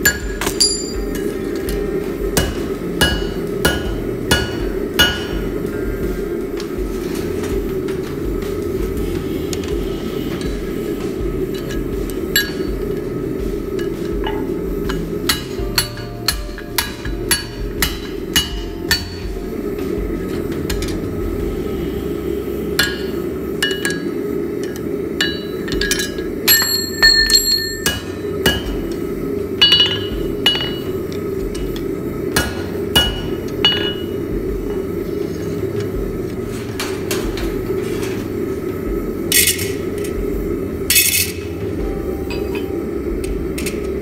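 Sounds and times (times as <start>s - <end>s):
hammer striking steel on anvil: 0.0s - 44.0s.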